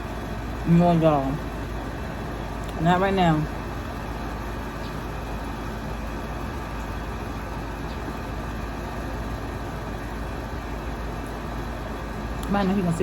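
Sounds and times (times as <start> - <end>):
engine running with hiss: 0.0 - 13.0.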